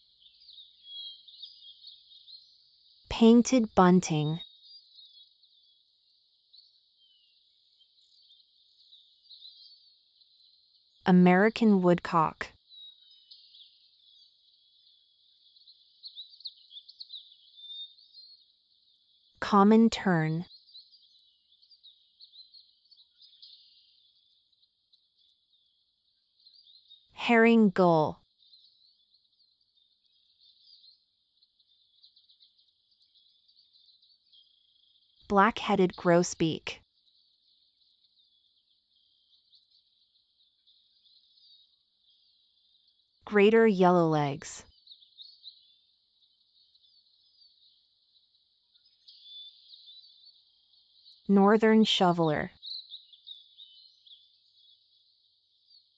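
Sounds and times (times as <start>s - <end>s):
faint bird chirps: 0.0s - 27.8s, 28.4s - 55.9s.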